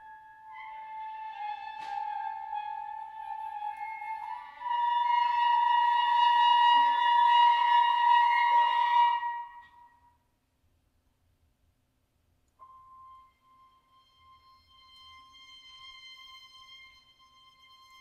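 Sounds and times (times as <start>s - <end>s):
flute sustained high tones: 0.0s - 10.1s, 12.6s - 18.0s.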